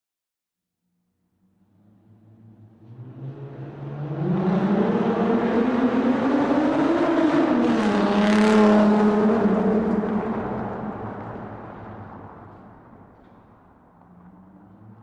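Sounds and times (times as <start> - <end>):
car engine accelerating in tunnel: 1.2 - 15.0.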